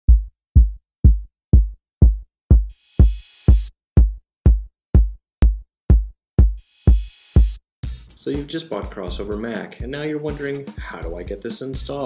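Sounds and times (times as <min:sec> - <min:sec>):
drum machine kick: 0:00.0 - 0:12.0.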